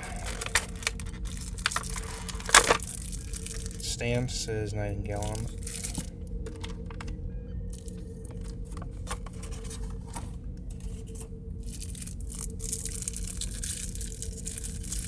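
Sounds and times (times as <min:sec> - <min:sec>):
packaging rustling and crinkling: 0:00.0 - 0:03.9, 0:05.1 - 0:07.1, 0:07.7 - 0:15.0
steady low hum: 0:00.0 - 0:15.0.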